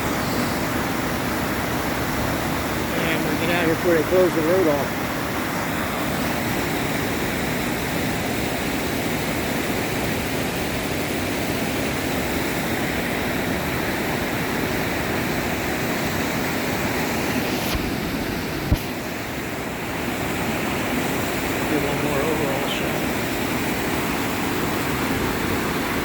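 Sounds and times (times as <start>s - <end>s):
flooded creek rushing: 0.0s - 26.0s.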